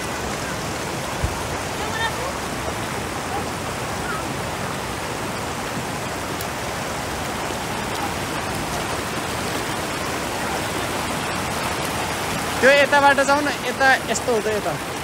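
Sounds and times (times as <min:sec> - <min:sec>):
water rushing hiss: 0:00.0 - 0:15.0.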